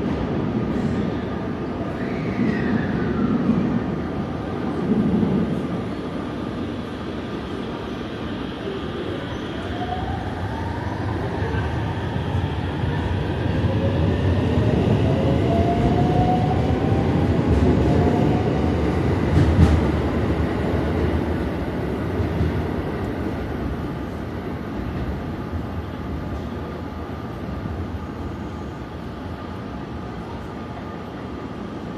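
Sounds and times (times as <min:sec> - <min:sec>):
wheels rumbling on rail: 0:00.0 - 0:31.9.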